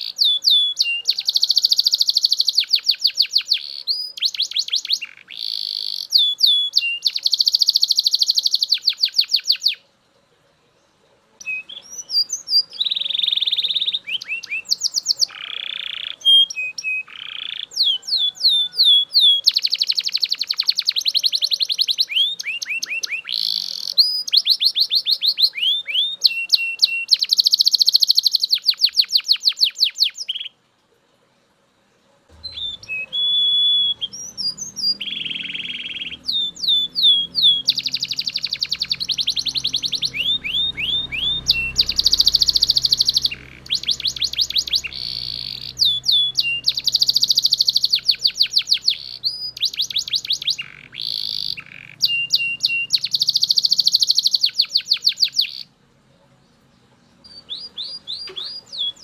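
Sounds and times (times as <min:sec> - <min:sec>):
canary singing trills: 0:00.0 - 0:30.6, 0:32.3 - 0:59.0.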